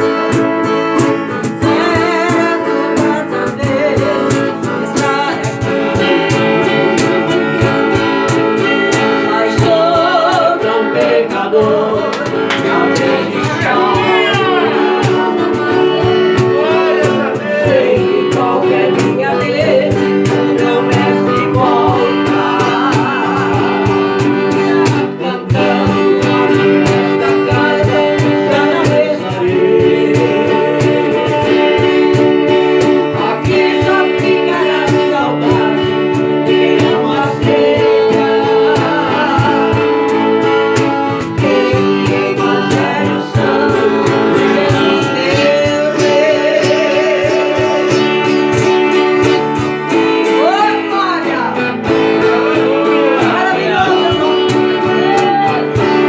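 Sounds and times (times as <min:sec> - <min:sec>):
folk guitar plucked: 0:00.0 - 0:56.0
person singing: 0:00.0 - 0:56.0.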